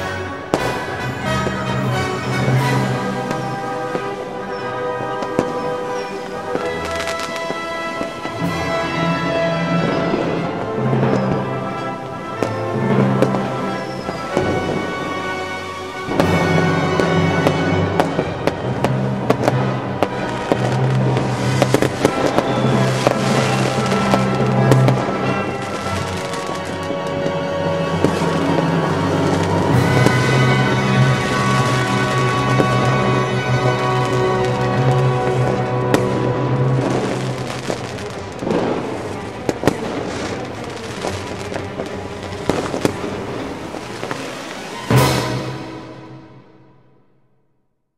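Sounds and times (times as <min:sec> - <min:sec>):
fireworks bangs and crackles: 0:00.0 - 0:46.5.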